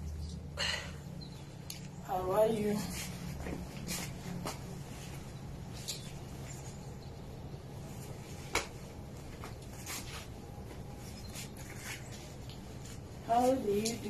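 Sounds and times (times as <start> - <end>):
steady low hum: 0.0 - 14.0
clothes rustling: 1.5 - 7.0, 7.7 - 14.0.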